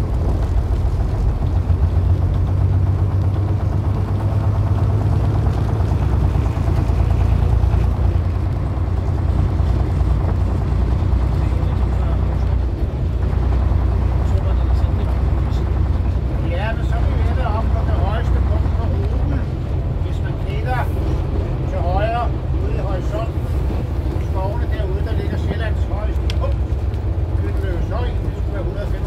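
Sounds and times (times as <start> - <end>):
bus engine rumbling: 0.0 - 29.0
road and wind noise: 0.0 - 29.0.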